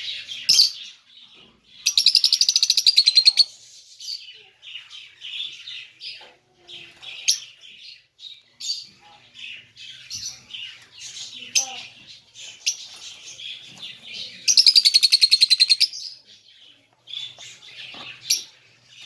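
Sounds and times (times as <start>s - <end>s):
parrots chirping and chattering: 0.0s - 19.0s.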